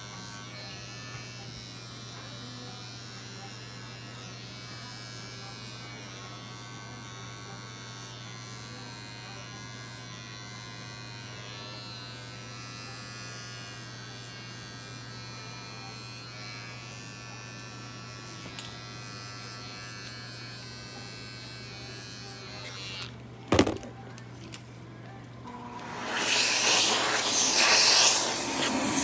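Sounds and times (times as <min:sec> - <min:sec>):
electric hair clipper humming: 0:00.0 - 0:23.8, 0:25.5 - 0:29.0.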